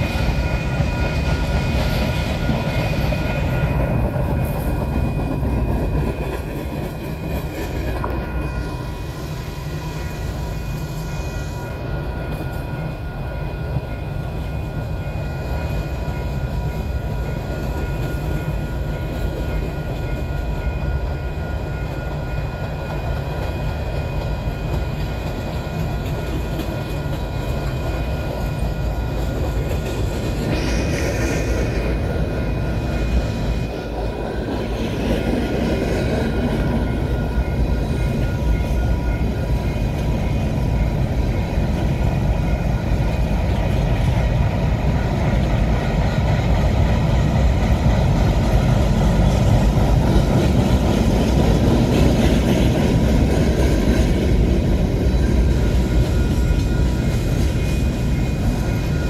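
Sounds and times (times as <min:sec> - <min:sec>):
freight train cars rolling past: 0:00.0 - 0:59.0
steel wheels clattering on rail joints: 0:00.0 - 0:59.0.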